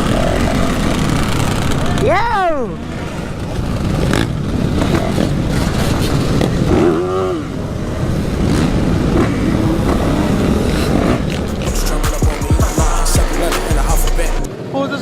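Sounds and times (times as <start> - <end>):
motorcycle engines: 0.0 - 14.9.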